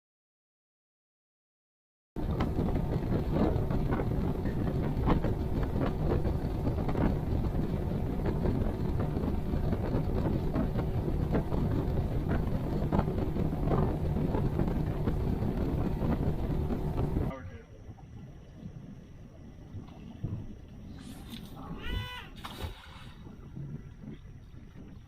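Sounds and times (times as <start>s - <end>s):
hull slapping on water: 2.2s - 17.3s, 17.9s - 25.0s
outboard motor running: 2.2s - 25.0s
wind buffeting microphone: 2.2s - 25.0s.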